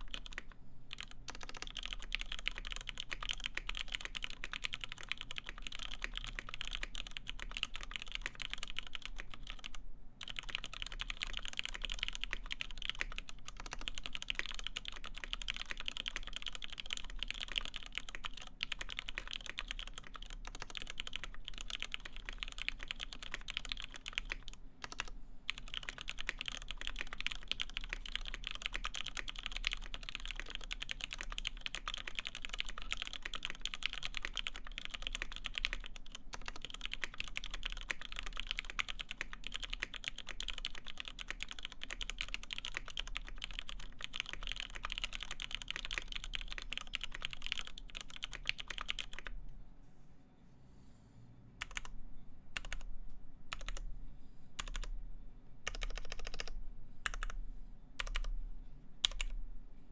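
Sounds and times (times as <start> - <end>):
mechanical keyboard typing: 0.0 - 49.4, 51.6 - 51.9, 52.6 - 52.9, 53.5 - 53.8, 54.6 - 54.9, 55.6 - 57.4, 58.0 - 58.3, 59.0 - 59.4.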